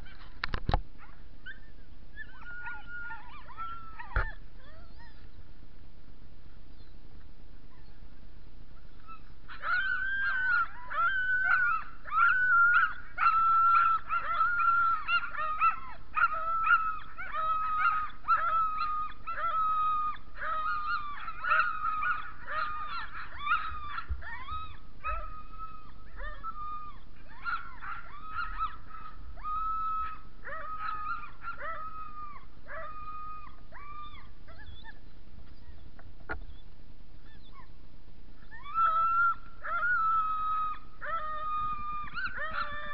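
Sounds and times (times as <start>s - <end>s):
sled dogs yelping and howling: 1.0s - 5.3s, 8.9s - 37.8s, 38.4s - 42.9s.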